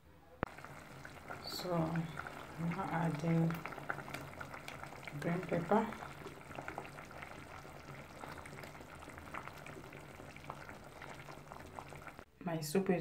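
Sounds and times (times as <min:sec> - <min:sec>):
soup bubbling with pops: 0:00.4 - 0:12.3.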